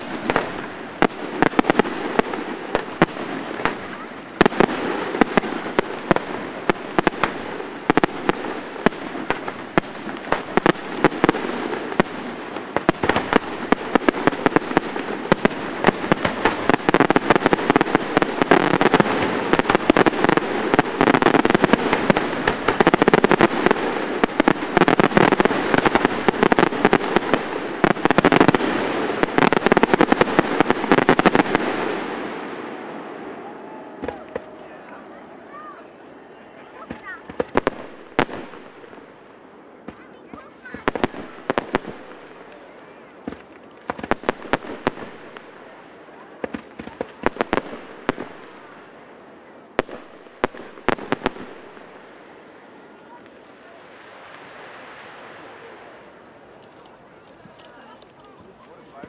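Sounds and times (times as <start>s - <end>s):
fireworks bangs: 0.0s - 59.0s
fireworks crackling: 0.0s - 59.0s.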